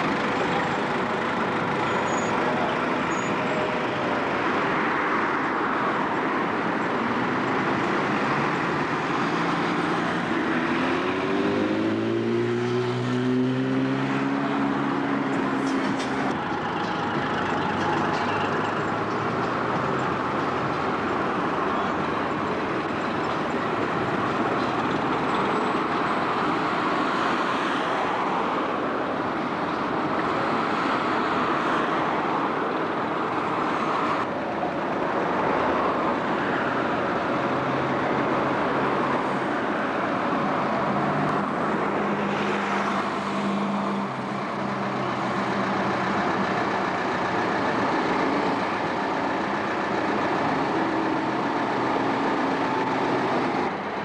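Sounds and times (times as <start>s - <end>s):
low bus engine drone: 0.0s - 54.0s
street traffic: 0.0s - 54.0s.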